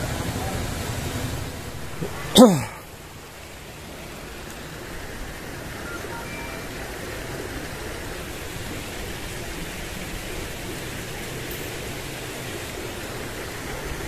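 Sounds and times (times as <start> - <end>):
steady rushing hissing noise: 0.0 - 14.0.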